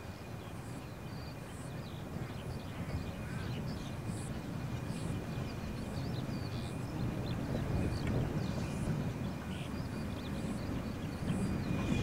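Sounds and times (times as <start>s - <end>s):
distant steam locomotive rumble: 0.0s - 12.0s
faint bird chirps: 0.0s - 12.0s
wind on microphone: 0.0s - 12.0s.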